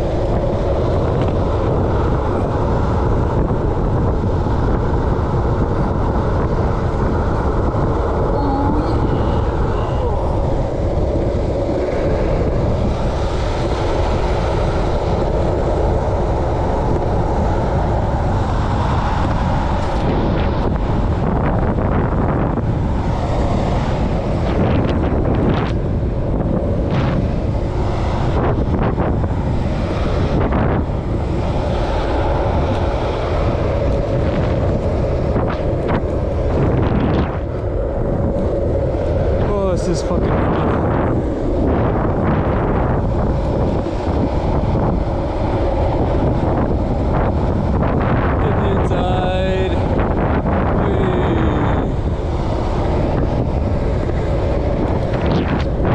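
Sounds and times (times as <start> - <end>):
wheels rolling on asphalt: 0.0 - 55.9
wind rushing over microphone: 0.0 - 55.9.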